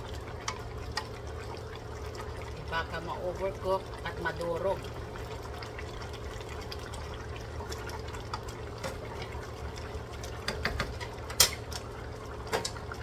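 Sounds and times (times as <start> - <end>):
stew bubbling in a pot: 0.0 - 13.0.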